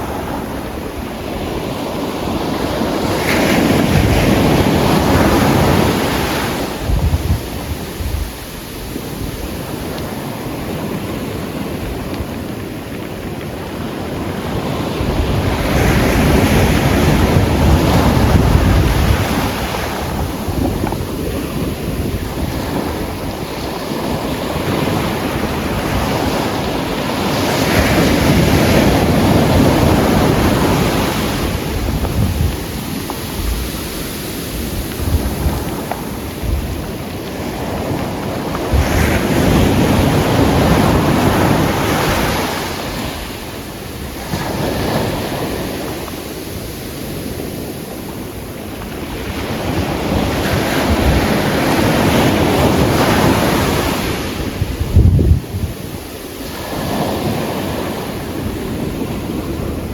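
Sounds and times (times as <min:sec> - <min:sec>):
surf breaking on pebble beach: 0:00.0 - 0:59.9.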